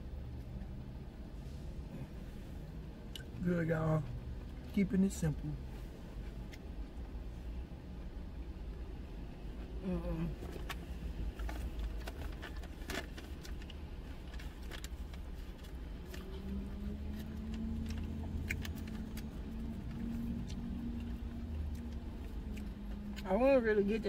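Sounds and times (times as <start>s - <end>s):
low rumble inside a car: 0.0s - 24.0s.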